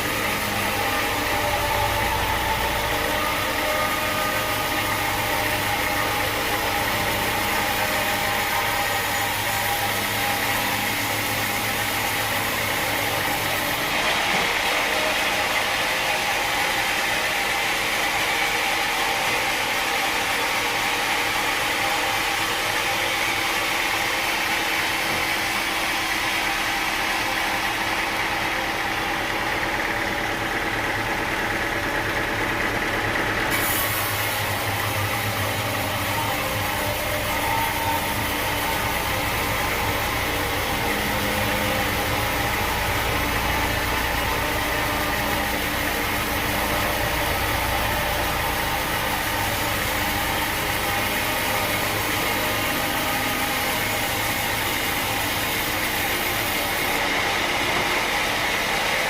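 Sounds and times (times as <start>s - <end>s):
sawmill machinery hum: 0.0s - 59.0s.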